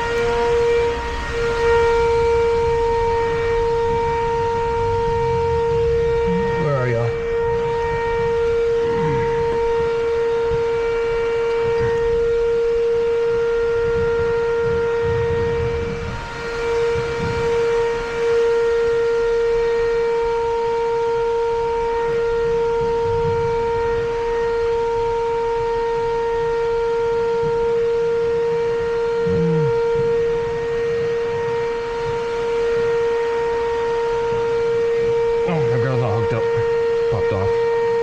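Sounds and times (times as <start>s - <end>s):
low thumps and rumbles: 0.0s - 38.0s
steady electronic buzzing tone: 0.0s - 38.0s.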